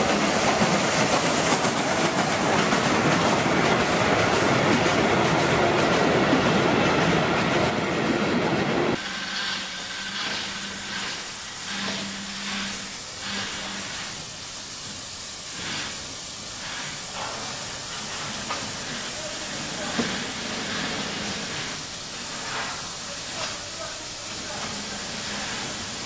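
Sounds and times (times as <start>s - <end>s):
soft steam puffs: 0.0s - 26.0s
steam hissing: 0.0s - 26.0s
steam train rumbling past: 0.0s - 26.0s.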